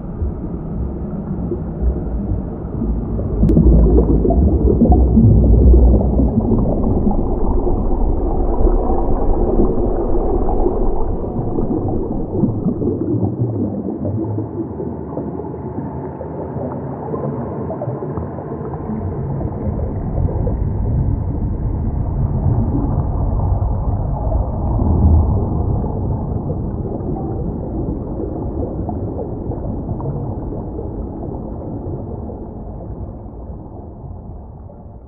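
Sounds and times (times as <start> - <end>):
deep muffled underwater rumble: 0.0 - 35.0
gurgling water: 0.0 - 35.0.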